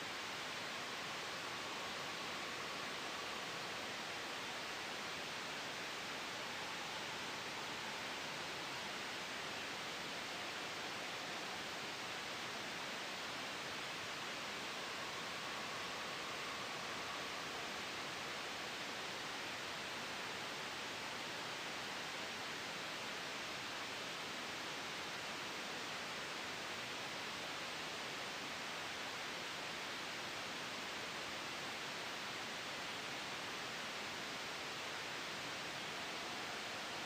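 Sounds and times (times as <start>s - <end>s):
gentle wind: 0.0s - 37.0s
soft white noise hiss: 0.0s - 37.0s.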